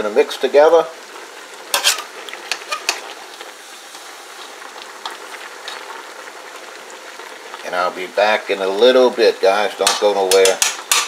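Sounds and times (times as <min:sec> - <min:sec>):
food sizzling in a metal pot: 0:00.0 - 0:11.0.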